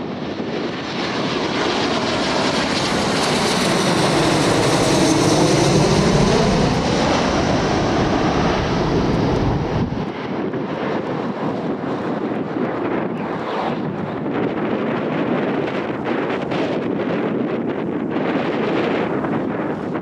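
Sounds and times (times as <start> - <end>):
airliner engines passing overhead: 0.0 - 20.0.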